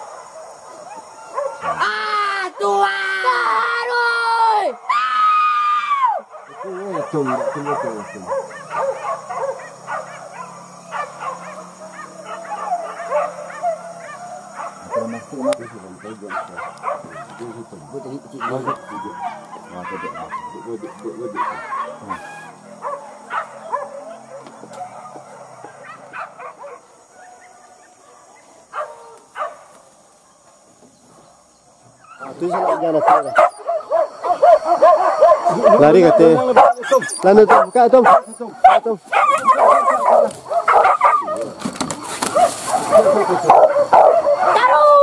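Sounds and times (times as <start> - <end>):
dogs yelping and baying: 0.0 - 1.8, 6.2 - 29.6, 31.3 - 45.0.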